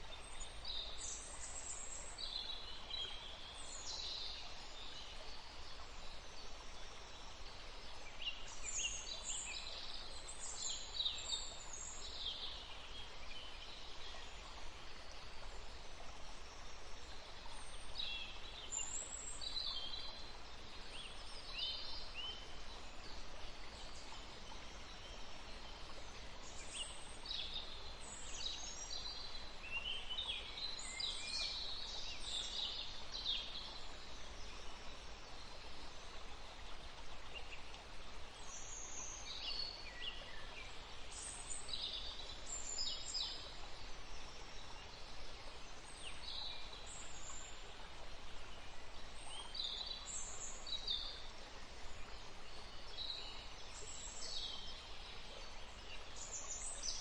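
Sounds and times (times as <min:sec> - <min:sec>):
songbirds chirping: 0:00.0 - 0:57.0
steady outdoor hiss: 0:00.0 - 0:57.0.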